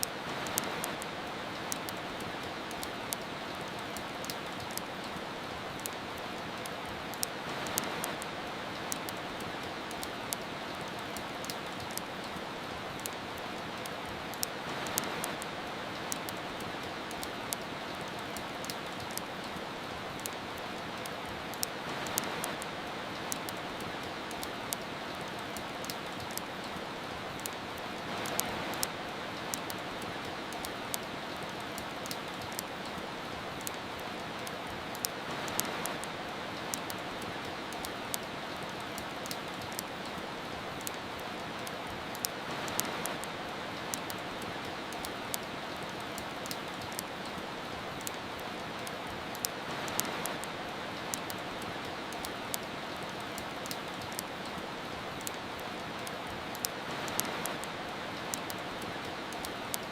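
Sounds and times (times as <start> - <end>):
steady rain hissing: 0.0 - 59.9
wood fire crackling: 0.0 - 59.9.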